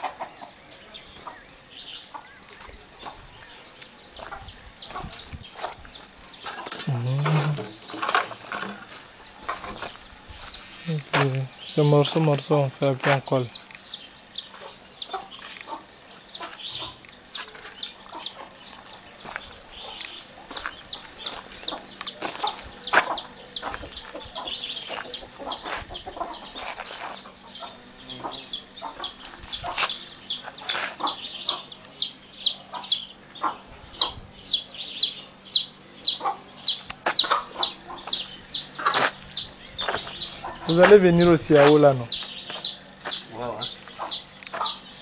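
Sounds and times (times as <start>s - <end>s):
chickens clucking and chirping: 0.0s - 45.0s.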